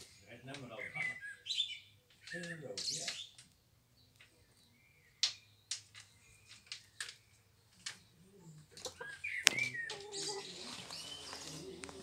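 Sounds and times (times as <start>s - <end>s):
faint high bird chirps: 0.0s - 12.0s.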